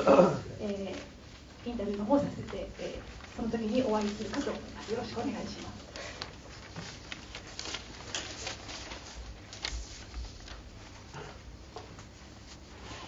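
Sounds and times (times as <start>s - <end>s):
soft clicks and rustles: 0.6s - 12.8s.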